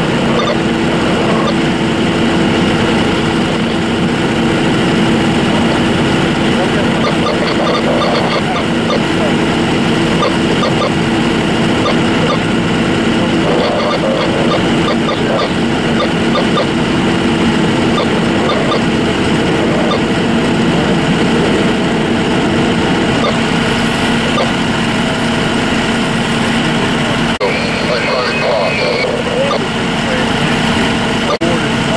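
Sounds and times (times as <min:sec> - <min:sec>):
fire truck engine running: 0:00.0 - 0:31.9.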